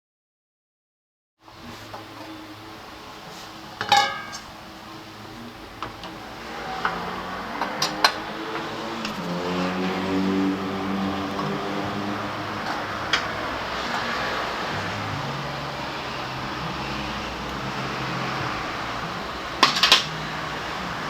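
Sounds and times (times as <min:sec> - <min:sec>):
steady low hum: 0:01.5 - 0:21.0.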